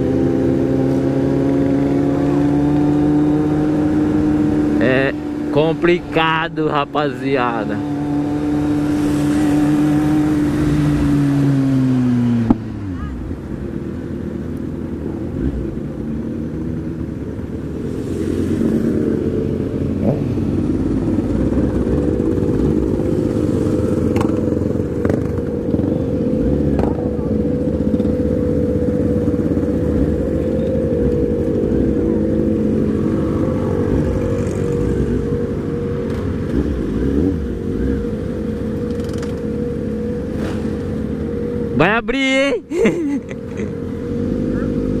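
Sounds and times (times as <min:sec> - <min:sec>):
motorcycle engine running: 0:00.0 - 0:41.8, 0:43.5 - 0:45.0.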